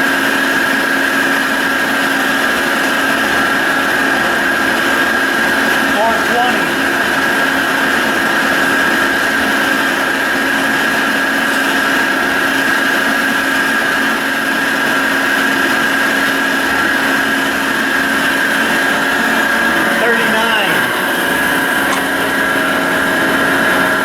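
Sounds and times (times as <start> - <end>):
drill press humming with whine: 0.0 - 24.0.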